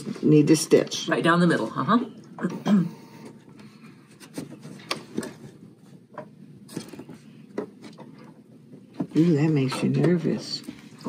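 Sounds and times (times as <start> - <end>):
faint motor hum: 0.3 - 11.0.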